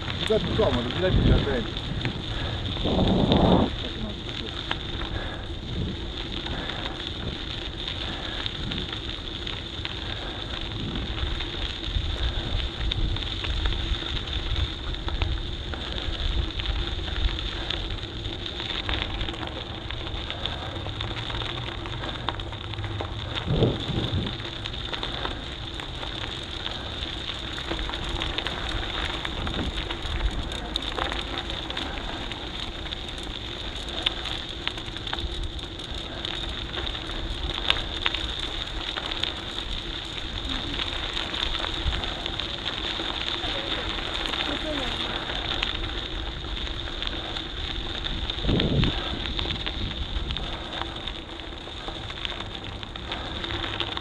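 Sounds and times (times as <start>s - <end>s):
bike rolling over rough ground: 0.0s - 54.0s
wind rumbling on microphone: 0.0s - 54.0s.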